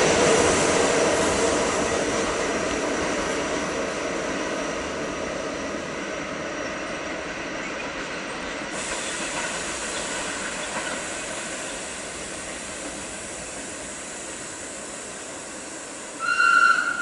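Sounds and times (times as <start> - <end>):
rushing hissing rail noise: 0.0 - 17.0.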